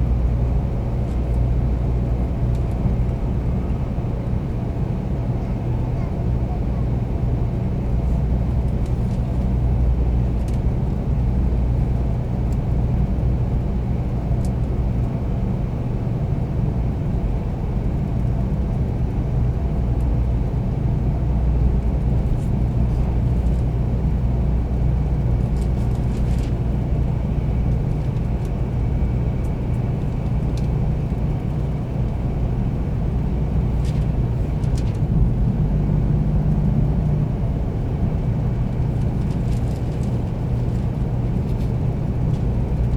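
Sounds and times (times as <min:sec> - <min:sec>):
train rumbling inside passenger car: 0:00.0 - 0:42.9.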